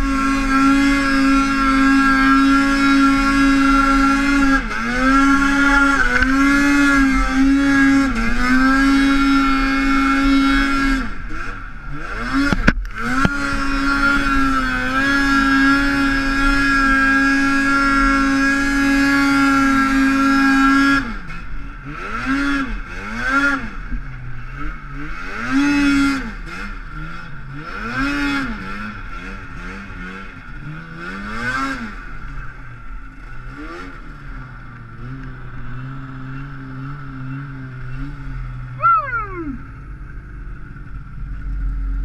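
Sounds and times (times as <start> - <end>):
snowmobile engine revving: 0.0 - 42.0.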